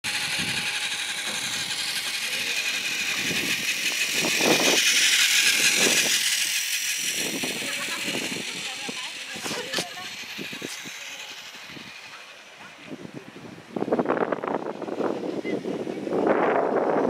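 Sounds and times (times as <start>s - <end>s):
toy train motor whirring: 0.0s - 17.0s.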